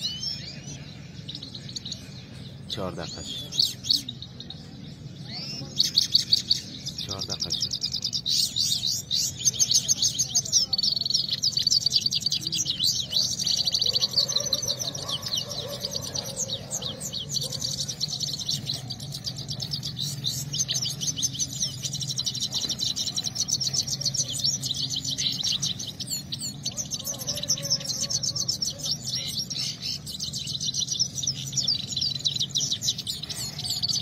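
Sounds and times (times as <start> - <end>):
goldfinch twittering song: 0.0 - 34.0.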